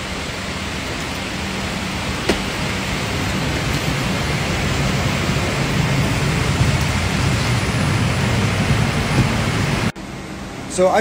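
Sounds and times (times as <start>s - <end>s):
cabin ventilation air rushing: 0.0s - 11.0s.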